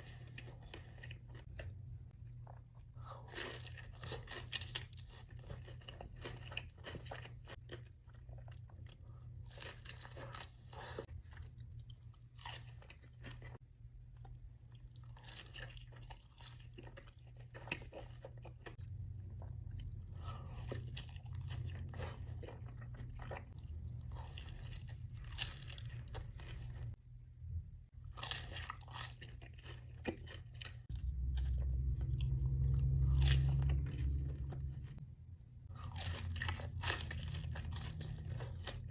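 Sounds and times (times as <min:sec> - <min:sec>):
chewing crunchy food: 0:00.0 - 0:27.0, 0:28.0 - 0:35.0, 0:35.7 - 0:38.9
low steady hum: 0:00.0 - 0:38.9.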